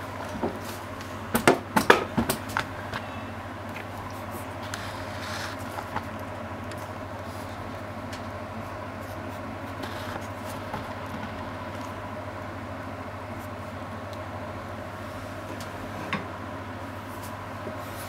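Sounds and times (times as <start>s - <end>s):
kitchen appliance humming: 0.0s - 18.0s.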